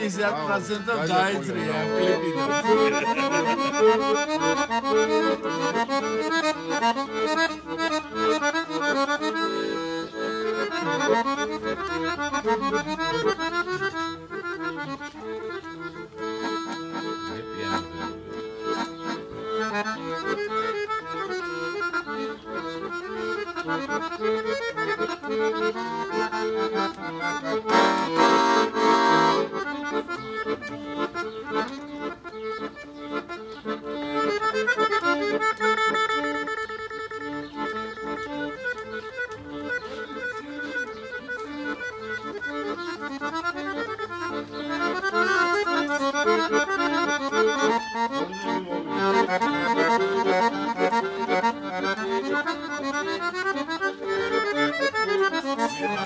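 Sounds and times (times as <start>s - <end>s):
piano accordion melody: 0.0s - 56.0s.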